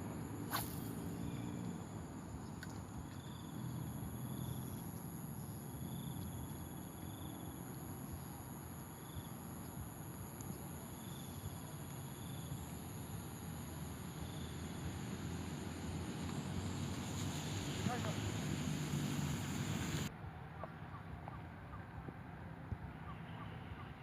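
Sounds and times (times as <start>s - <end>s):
high-pitched insect chorus: 0.0s - 20.1s
short insect chirp: 0.0s - 20.1s.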